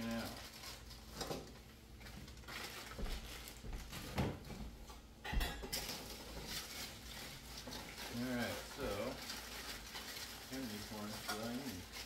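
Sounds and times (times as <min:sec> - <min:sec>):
pots and utensils clinking: 0:00.0 - 0:03.4, 0:04.8 - 0:12.0
plastic bag rustling: 0:00.0 - 0:04.5, 0:05.7 - 0:12.0.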